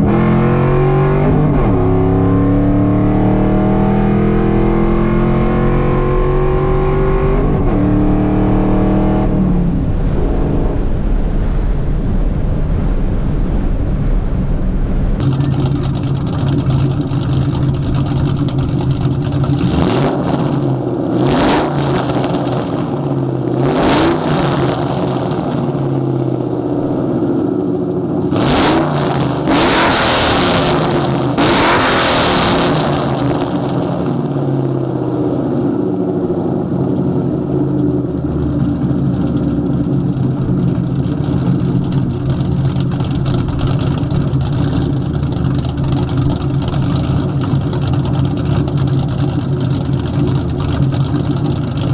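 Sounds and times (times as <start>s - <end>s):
car engine revving and idling: 0.0s - 51.9s.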